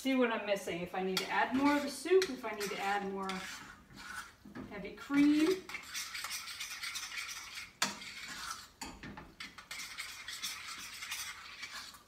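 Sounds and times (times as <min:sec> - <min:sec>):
spoon scraping through sauce: 0:01.2 - 0:12.0.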